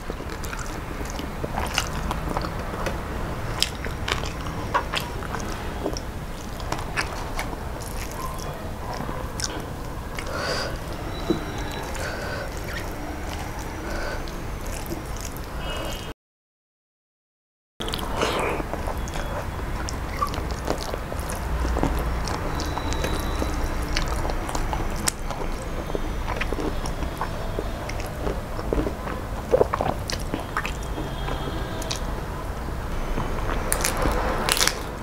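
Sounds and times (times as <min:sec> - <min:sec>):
woman chewing food: 0:00.0 - 0:16.1, 0:17.8 - 0:35.0.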